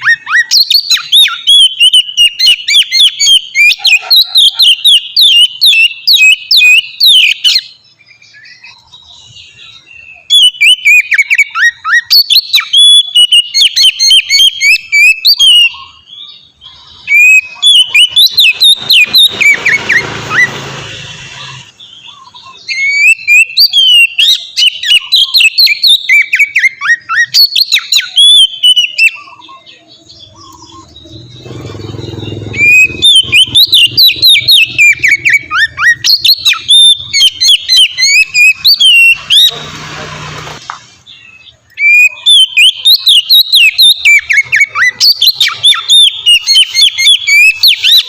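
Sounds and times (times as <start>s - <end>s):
bird singing whistled phrases: 0.0s - 20.6s, 21.2s - 39.5s, 41.1s - 48.0s.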